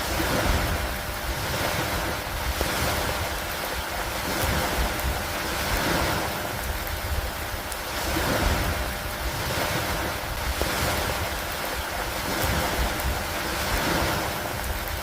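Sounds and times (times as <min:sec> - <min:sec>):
gusting wind: 0:00.0 - 0:15.0
heavy rain: 0:00.0 - 0:15.0.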